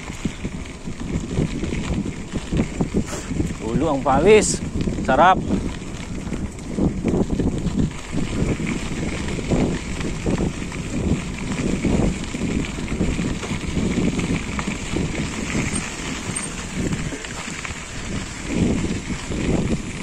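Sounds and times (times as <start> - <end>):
bike knocking and rattling: 0.0 - 20.0
wind buffeting microphone: 0.0 - 20.0.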